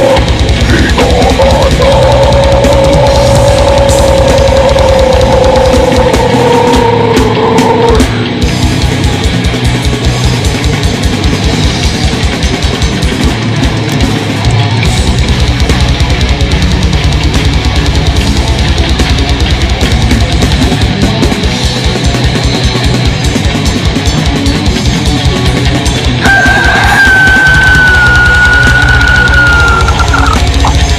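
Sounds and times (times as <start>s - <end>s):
fast kick drum beat: 0.0s - 30.9s
heavy metal guitars: 0.0s - 30.9s.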